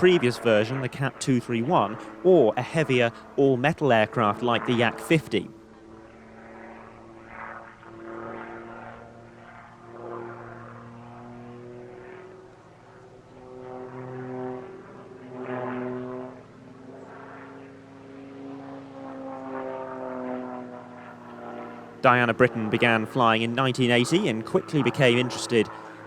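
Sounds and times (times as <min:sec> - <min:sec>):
propeller aircraft engine: 0:00.0 - 0:26.0.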